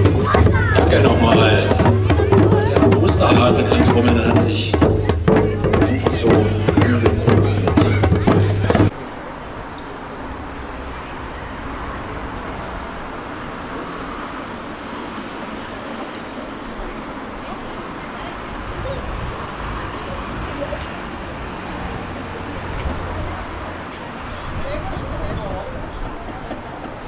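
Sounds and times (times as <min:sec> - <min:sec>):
road traffic hiss and rumble: 0:00.0 - 0:27.0.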